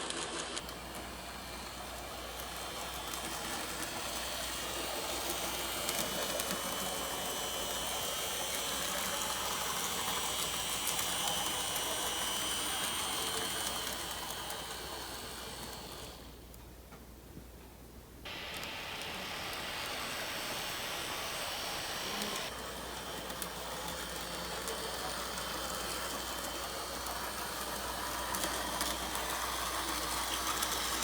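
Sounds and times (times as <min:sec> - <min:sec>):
model train motor whine: 0:00.0 - 0:16.4, 0:18.3 - 0:31.0
wheels rattling on rails: 0:00.1 - 0:16.3, 0:18.3 - 0:31.0.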